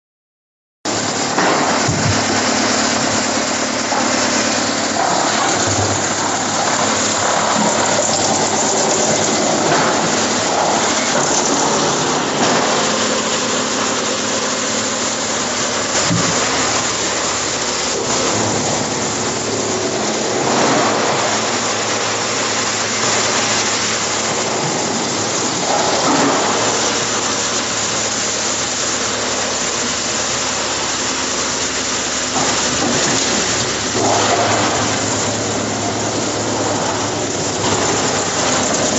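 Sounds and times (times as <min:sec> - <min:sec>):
wood chipper running: 0:00.9 - 0:38.9.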